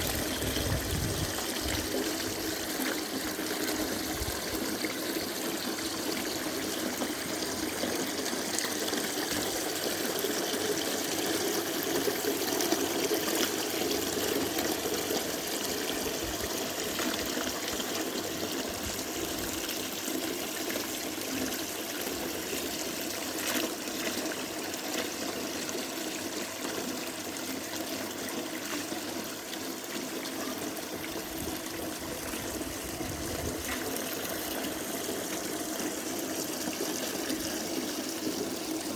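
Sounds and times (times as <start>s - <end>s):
water trickling into basin: 0.0s - 38.9s.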